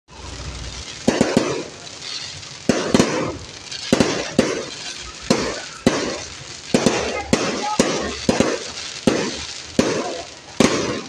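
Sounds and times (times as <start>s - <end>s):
crackle of sparks: 0.1s - 11.0s
fireworks bangs: 0.1s - 11.0s.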